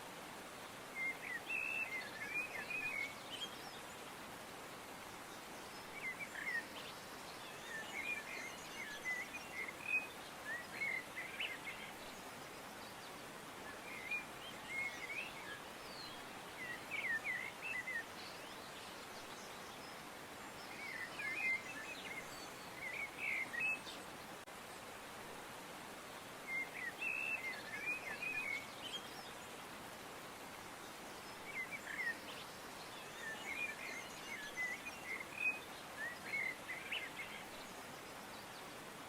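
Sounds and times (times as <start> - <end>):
songbirds chirping: 0.0 - 39.0
steady background hiss: 0.0 - 39.0.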